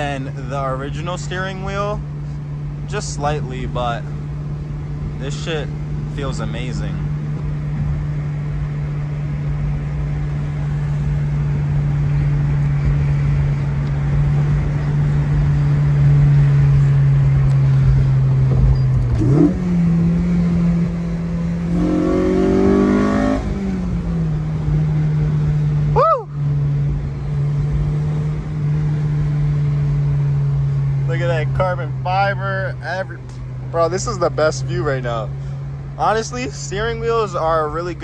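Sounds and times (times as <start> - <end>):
car engine drone from cabin: 0.0 - 38.0.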